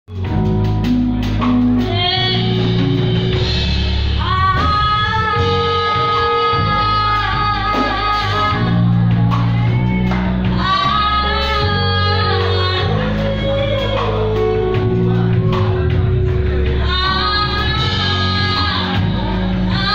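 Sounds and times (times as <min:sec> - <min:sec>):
bass guitar: 0:00.0 - 0:19.9
drums: 0:00.1 - 0:19.9
electric guitar: 0:00.1 - 0:19.9
piano: 0:00.1 - 0:19.9
woman singing: 0:01.8 - 0:19.9.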